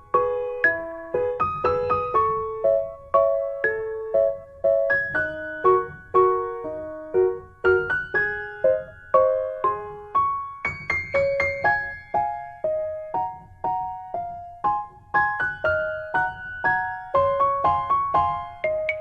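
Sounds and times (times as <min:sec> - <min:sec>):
gentle piano-like melody: 0:00.0 - 0:19.0.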